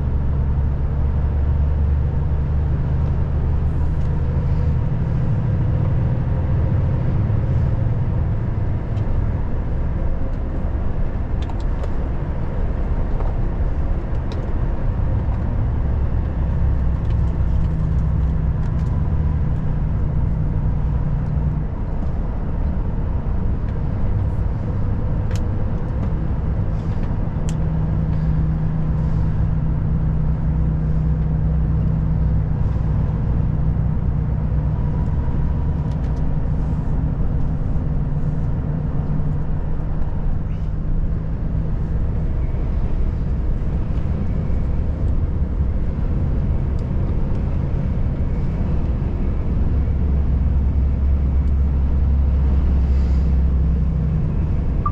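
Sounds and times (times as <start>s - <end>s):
truck engine and road noise: 0.0s - 54.9s.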